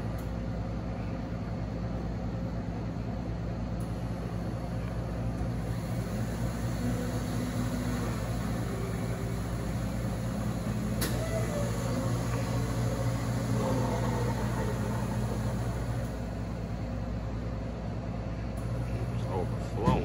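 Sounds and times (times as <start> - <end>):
vending machine humming: 0.0 - 20.0.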